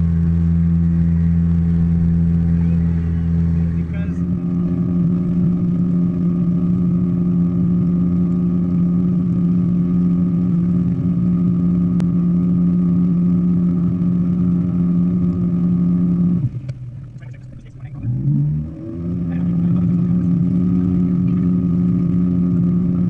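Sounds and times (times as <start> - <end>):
boat motor running steadily: 0.0 - 23.0.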